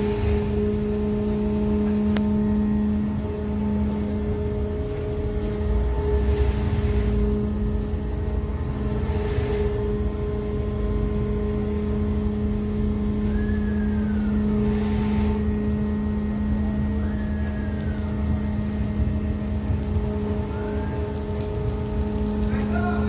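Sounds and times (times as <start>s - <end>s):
ferry diesel engines droning: 0.0s - 23.0s.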